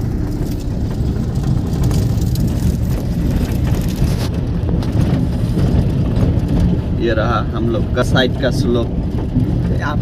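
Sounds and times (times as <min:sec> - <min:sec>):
small knocks and crackles: 0:00.0 - 0:07.1, 0:07.7 - 0:10.0
vehicle engine and tyres rumbling: 0:00.0 - 0:10.0.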